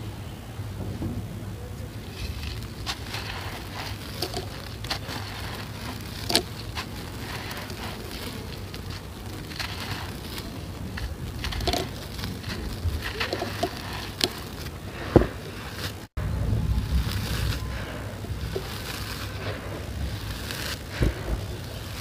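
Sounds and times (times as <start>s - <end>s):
grains pattering onto sand: 1.8s - 22.0s
cement chunks crunching by hand: 2.0s - 22.0s.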